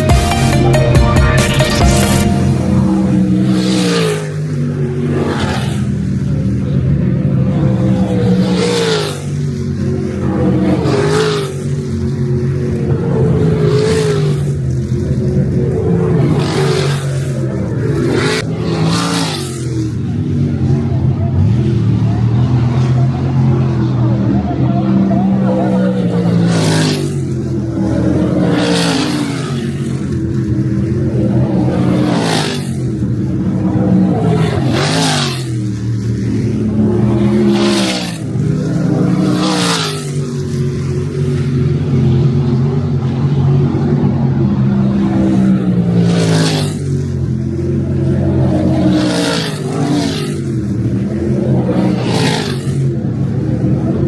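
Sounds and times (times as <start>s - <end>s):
race car engines at high revs: 1.4s - 54.0s.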